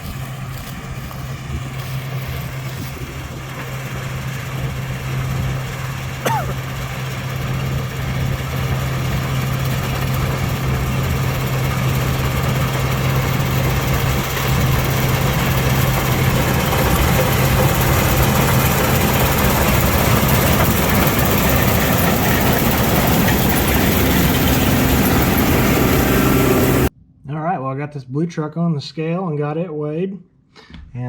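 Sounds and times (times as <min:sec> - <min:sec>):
heavy engine humming: 0:00.0 - 0:26.9.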